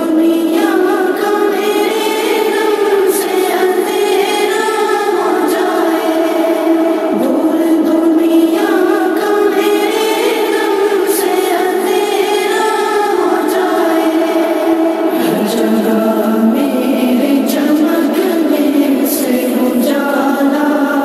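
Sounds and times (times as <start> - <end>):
voices singing chant-like: 0.0 - 21.0.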